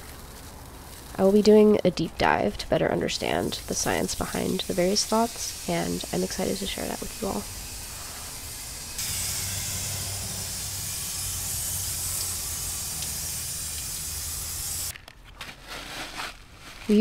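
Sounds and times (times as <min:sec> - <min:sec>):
water spraying from hose: 0:00.0 - 0:14.9.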